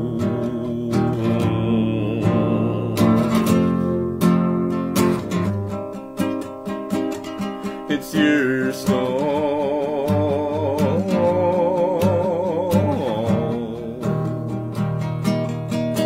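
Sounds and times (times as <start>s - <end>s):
classical guitar strummed: 0.0s - 16.0s.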